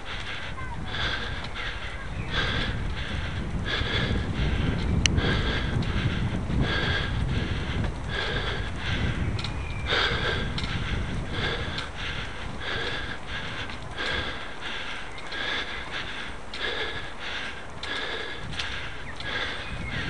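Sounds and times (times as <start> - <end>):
hard rapid breathing: 0.0 - 20.0.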